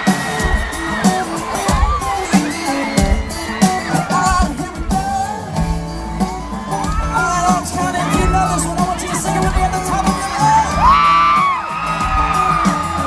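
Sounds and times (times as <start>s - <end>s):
country-pop band playing live: 0.0s - 13.0s
crowd whooping and screaming: 0.0s - 13.0s.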